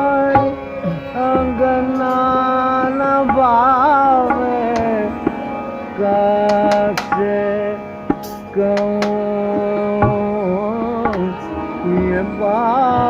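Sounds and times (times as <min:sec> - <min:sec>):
person singing long wavering notes: 0:00.0 - 0:13.0
sustained accompaniment: 0:00.0 - 0:13.0
tabla strokes: 0:00.3 - 0:13.0.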